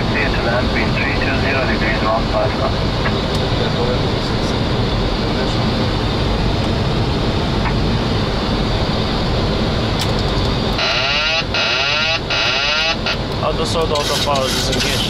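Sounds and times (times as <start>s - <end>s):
airflow and engine noise in cockpit: 0.0s - 15.0s.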